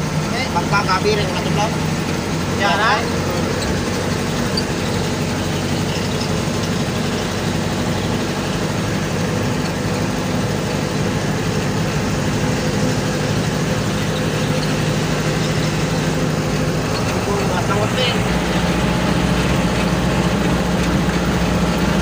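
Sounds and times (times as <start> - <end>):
road noise: 0.0 - 22.0
vehicle engine drone: 0.0 - 22.0.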